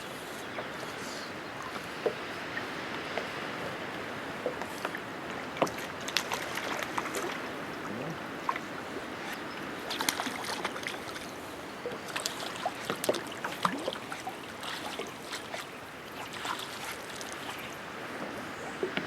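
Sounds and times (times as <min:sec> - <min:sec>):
running water: 0:00.0 - 0:19.0
water splashing and sloshing: 0:00.0 - 0:19.0.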